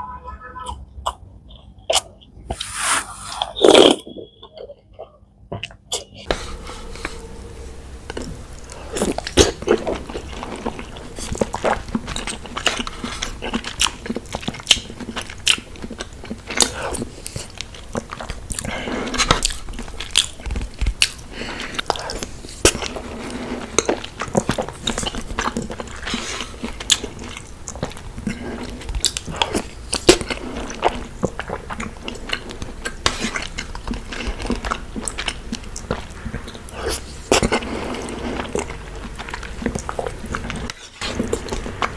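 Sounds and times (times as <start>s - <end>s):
close chewing and mouth smacks: 4.4s - 6.4s, 8.1s - 41.9s.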